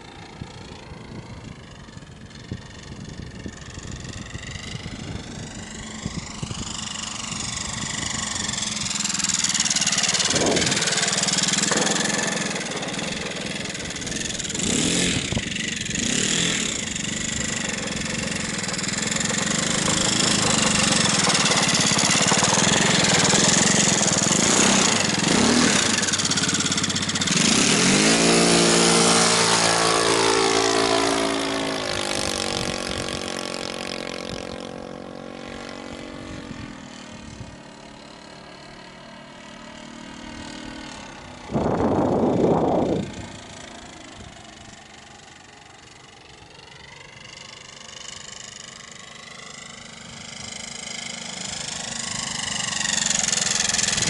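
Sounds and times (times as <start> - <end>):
model plane engine and propeller: 0.0 - 54.0.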